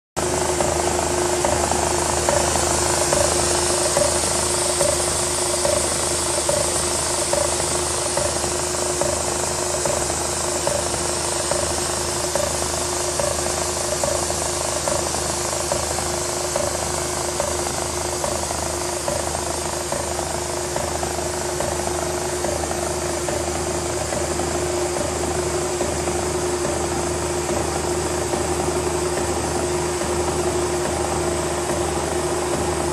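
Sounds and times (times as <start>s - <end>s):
milling machine cutting metal: 0.2s - 32.9s.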